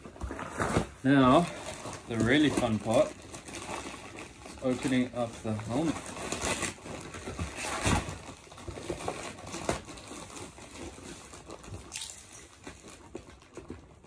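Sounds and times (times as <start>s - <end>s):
plastic wrap and tape crinkling: 0.0s - 14.0s.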